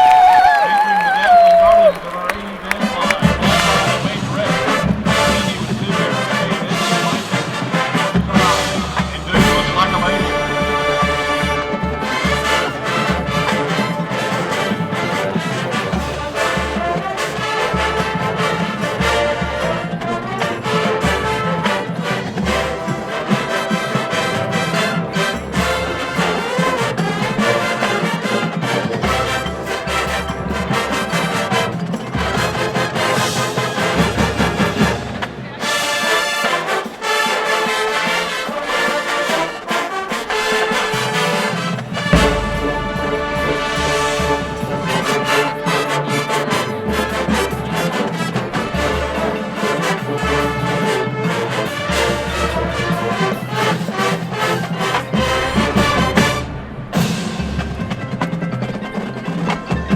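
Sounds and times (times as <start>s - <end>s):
drum beats: 0.0s - 59.9s
marching band brass: 0.0s - 59.9s.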